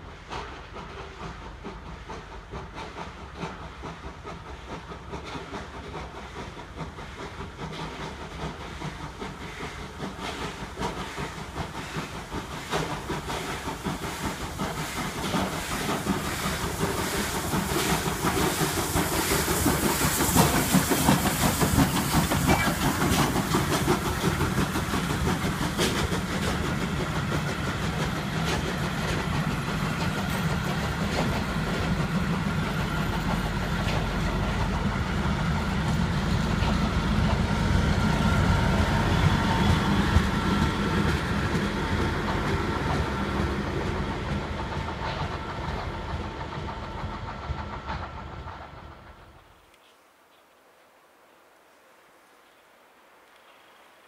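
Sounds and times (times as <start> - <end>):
steam hissing from cylinders: 0.0 - 49.6
train carriages rumbling past: 0.0 - 49.7.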